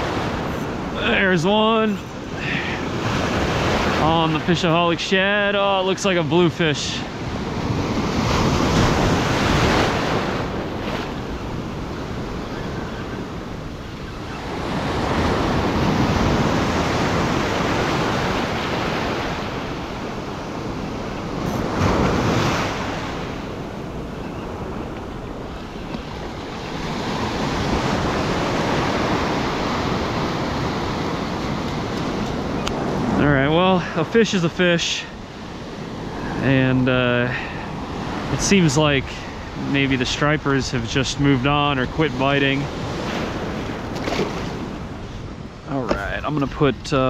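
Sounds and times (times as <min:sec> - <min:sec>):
ocean surf breaking: 0:00.0 - 0:47.0.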